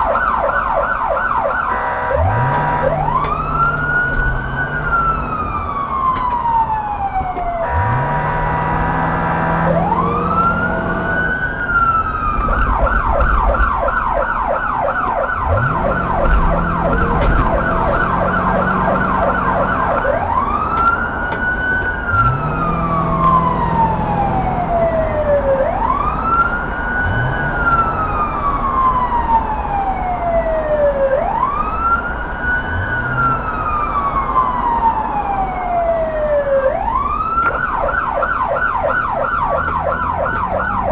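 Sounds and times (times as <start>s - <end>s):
moving car running noise: 0.0s - 40.9s
police siren wail and yelp: 0.0s - 40.9s.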